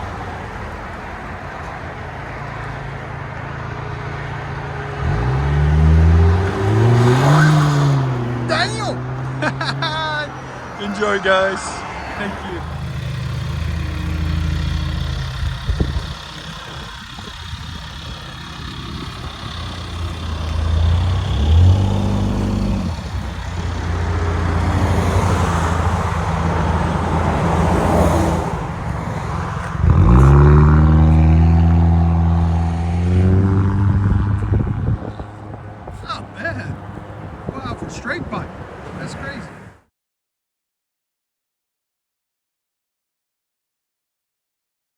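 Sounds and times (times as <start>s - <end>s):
car engine accelerating: 0.0s - 39.7s.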